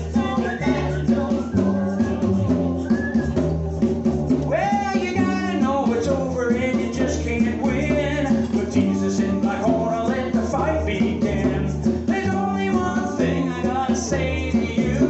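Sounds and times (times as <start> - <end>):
person singing: 0.0 - 3.5, 4.5 - 15.0
gospel band playing: 0.0 - 15.0.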